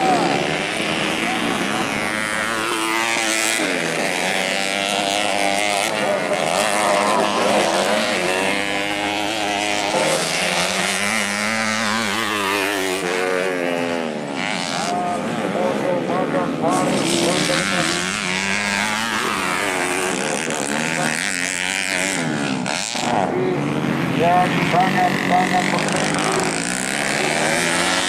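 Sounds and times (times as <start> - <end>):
racing motorcycles revving: 0.0 - 28.0.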